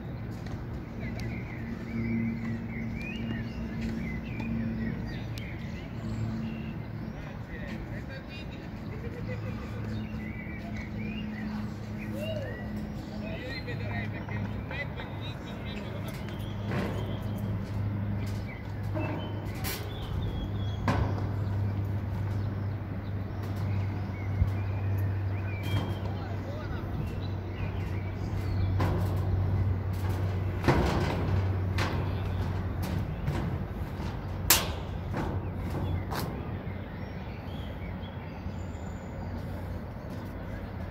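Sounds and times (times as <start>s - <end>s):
birds chirping: 0.0s - 40.9s
distant traffic hum: 0.0s - 40.9s
footsteps on metal deck: 0.0s - 40.9s.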